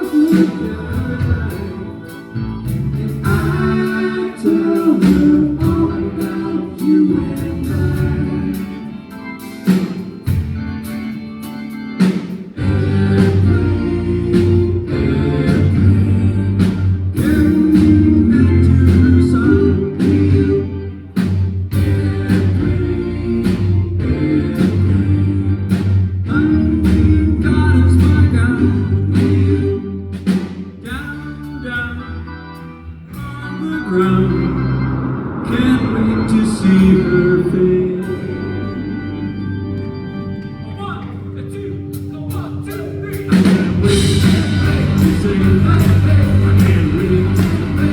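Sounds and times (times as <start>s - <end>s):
person singing: 0.0s - 9.2s, 12.6s - 30.1s, 33.1s - 39.9s, 40.7s - 47.9s
live rock band playing: 0.0s - 47.9s.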